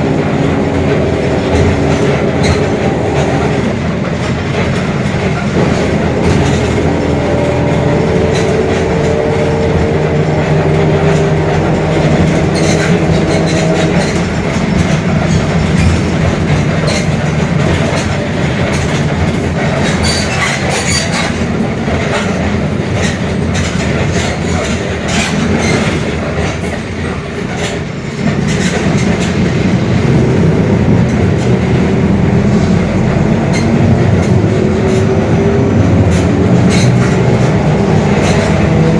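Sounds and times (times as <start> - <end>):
bus body rattling: 0.0 - 38.9
bus drivetrain whining growl: 0.0 - 38.9.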